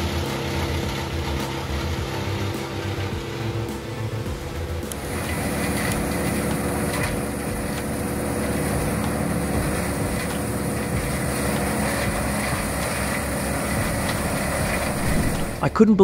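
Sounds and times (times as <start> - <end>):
brush chipper chipping branches: 0.0 - 15.7.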